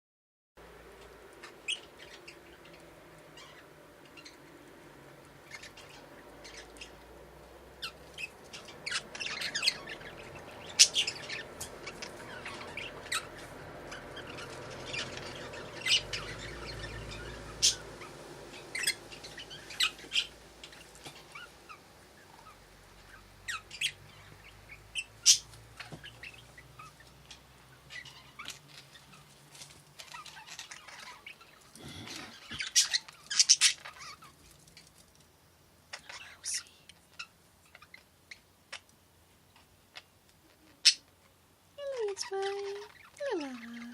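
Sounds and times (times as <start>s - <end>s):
budgerigars chirping: 1.4s - 4.5s, 5.4s - 7.2s, 7.8s - 29.3s, 30.0s - 34.9s, 35.9s - 38.9s, 39.5s - 41.1s, 41.9s - 43.9s.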